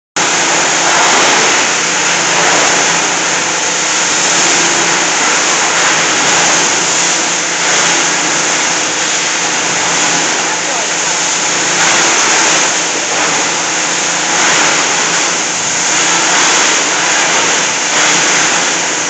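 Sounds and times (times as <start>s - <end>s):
plastic crusher running: 0.2s - 19.0s.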